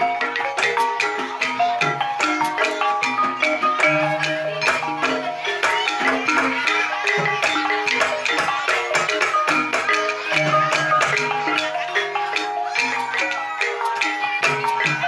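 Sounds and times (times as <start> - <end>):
gamelan ensemble playing: 0.0 - 15.0.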